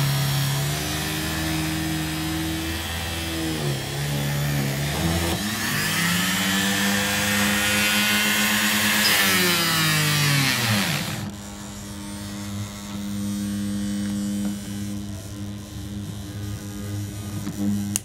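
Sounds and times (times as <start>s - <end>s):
rotary tool whining into wood: 0.0s - 18.0s.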